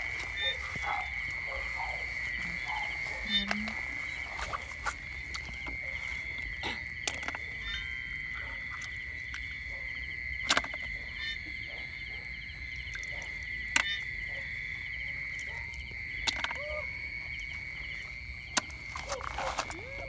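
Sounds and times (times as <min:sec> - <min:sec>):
frogs and insects chorus: 0:00.0 - 0:20.0.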